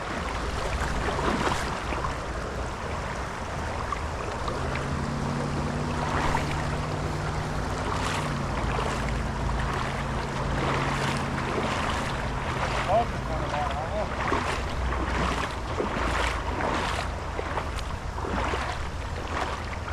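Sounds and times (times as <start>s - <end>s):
creek water rushing and splashing: 0.0s - 19.9s
steady low hum: 0.0s - 19.9s.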